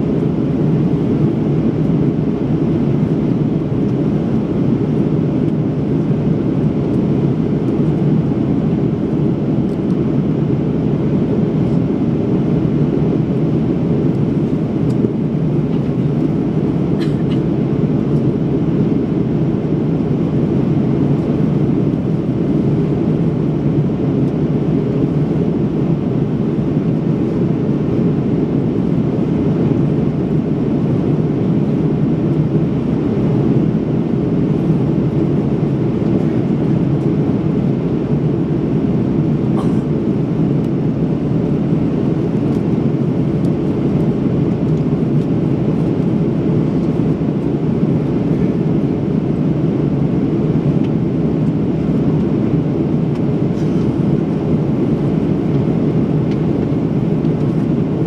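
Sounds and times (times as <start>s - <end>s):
airliner cabin engine rush: 0.0s - 58.0s.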